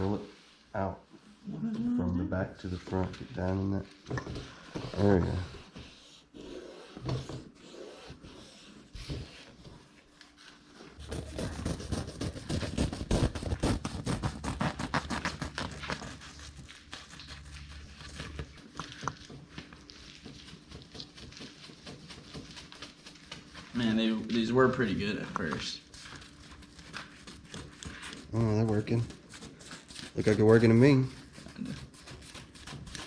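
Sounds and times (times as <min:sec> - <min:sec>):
scraping and rubbing fabric: 0:00.0 - 0:01.5, 0:02.5 - 0:33.0.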